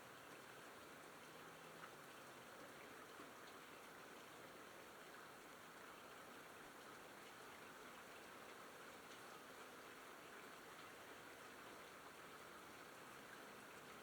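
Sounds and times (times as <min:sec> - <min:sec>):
faint steady rainfall: 0:00.0 - 0:14.0.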